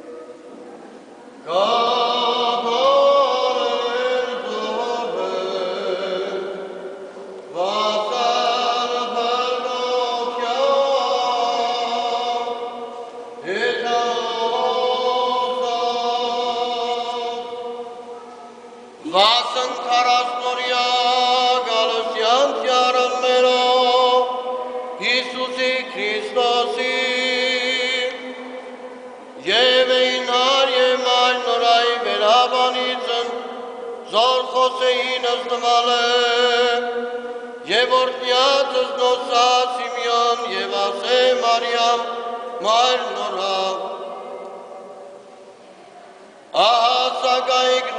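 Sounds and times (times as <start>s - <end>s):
voices chanting long sung notes: 0.0s - 47.9s.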